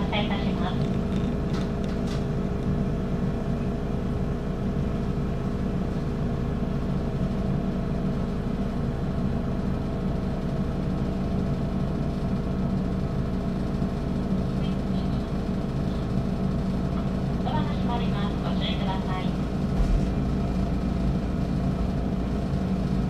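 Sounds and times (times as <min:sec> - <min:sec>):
train equipment humming: 0:00.0 - 0:23.0.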